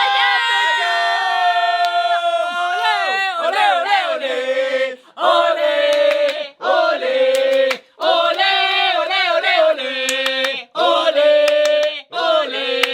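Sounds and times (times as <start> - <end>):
voices singing together: 0.0 - 12.9.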